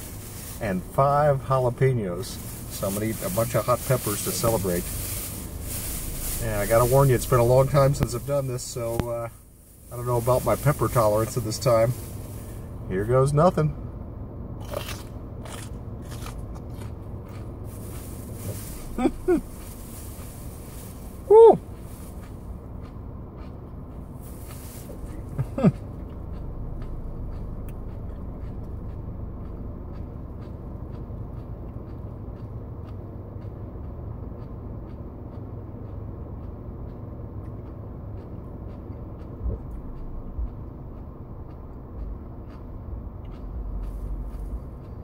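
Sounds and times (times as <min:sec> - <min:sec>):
car cabin hum: 0:00.0 - 0:14.5, 0:16.4 - 0:45.0.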